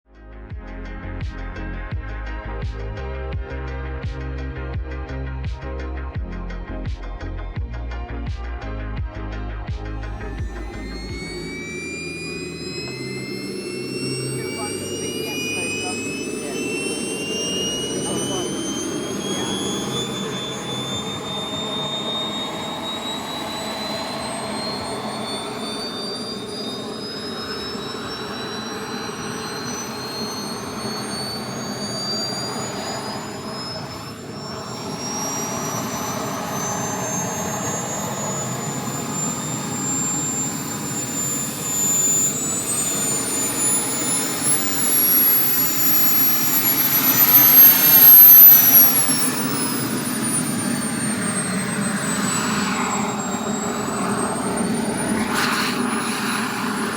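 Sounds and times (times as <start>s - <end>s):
second rising whine: 0.5s - 56.9s
jet turbine whine rising: 0.6s - 56.9s.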